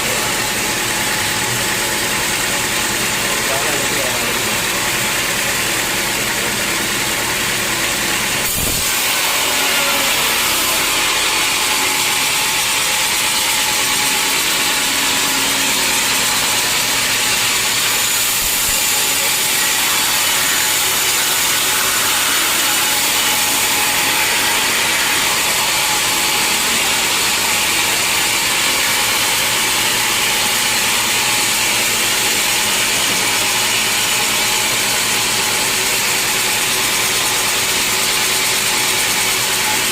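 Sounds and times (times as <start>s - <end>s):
sawmill machinery running: 0.0s - 39.9s
wood sawing: 0.0s - 39.9s.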